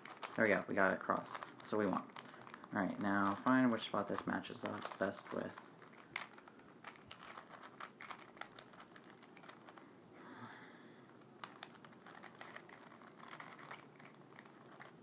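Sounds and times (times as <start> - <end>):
puzzle cube clicking: 0.0 - 9.9, 11.1 - 15.0.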